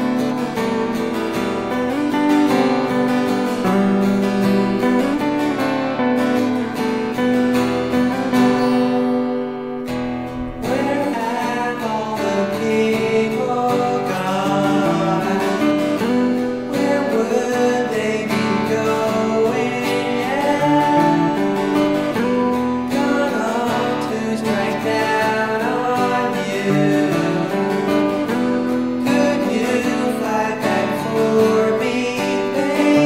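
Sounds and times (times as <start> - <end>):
strummed acoustic guitar chords: 0.0 - 33.0.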